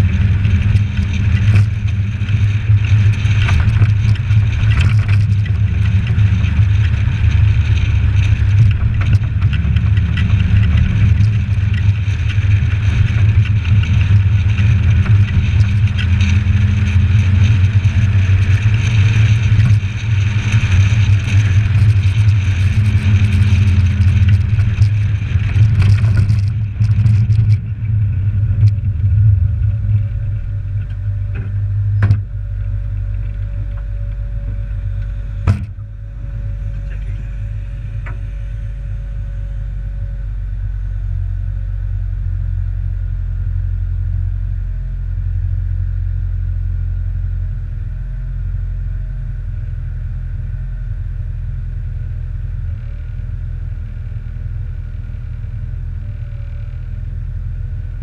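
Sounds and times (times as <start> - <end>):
engine and road rumble: 0.0 - 58.0
wind and tyre hiss: 0.0 - 58.0.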